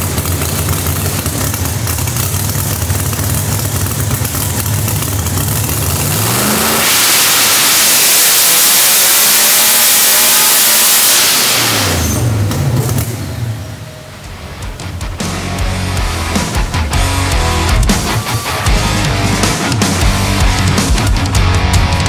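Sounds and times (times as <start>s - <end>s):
supercharged engine idling and revving: 0.0s - 22.0s.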